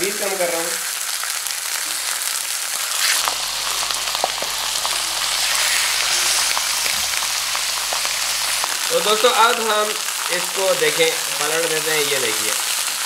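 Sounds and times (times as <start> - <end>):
meat sizzling in a skillet: 0.0 - 13.0.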